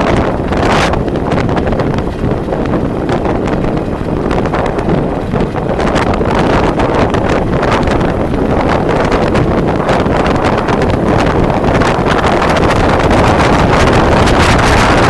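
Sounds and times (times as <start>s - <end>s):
road and vehicle rumble: 0.0s - 15.0s
wind buffeting microphone: 0.0s - 15.0s.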